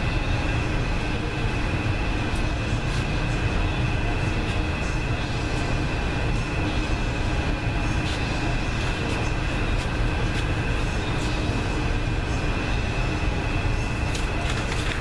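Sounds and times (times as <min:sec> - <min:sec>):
steady mechanical rumble: 0:00.0 - 0:15.0
thin high whine: 0:00.0 - 0:15.0.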